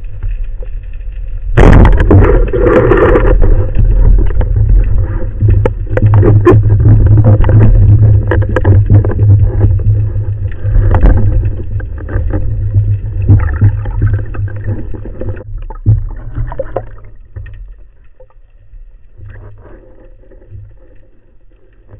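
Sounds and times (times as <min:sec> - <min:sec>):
underwater water rushing: 0:00.0 - 0:21.9.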